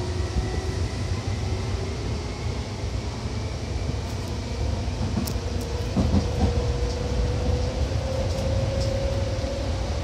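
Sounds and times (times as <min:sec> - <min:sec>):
wheels rumbling on rail: 0:00.0 - 0:10.0.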